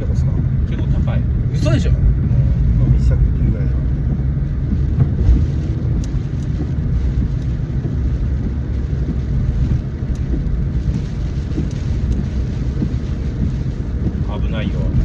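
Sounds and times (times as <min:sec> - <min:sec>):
car driving rumble: 0:00.0 - 0:15.0
wind and rain noise: 0:00.0 - 0:15.0.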